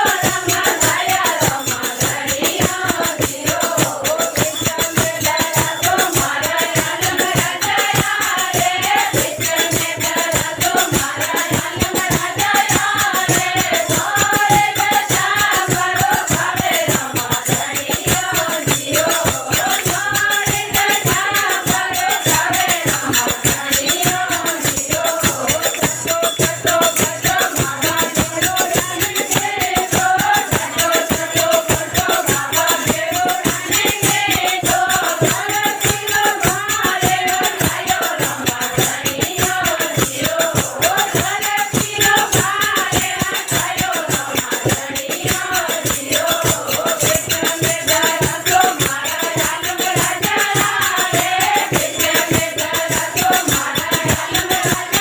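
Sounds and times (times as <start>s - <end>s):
dholak drum beating: 0.0s - 55.0s
jingling rattle percussion: 0.0s - 55.0s
women singing together: 0.0s - 55.0s.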